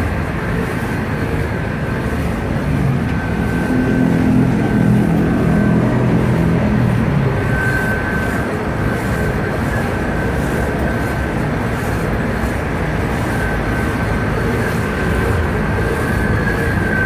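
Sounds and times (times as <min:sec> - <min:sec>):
high whine: 0:00.0 - 0:17.0
lathe mechanical drone: 0:00.0 - 0:17.0.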